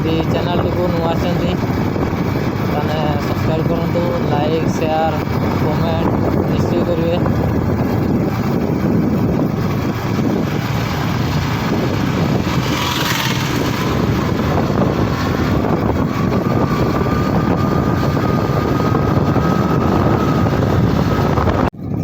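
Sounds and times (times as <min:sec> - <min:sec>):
vehicle rumbling along road: 0:00.0 - 0:22.0.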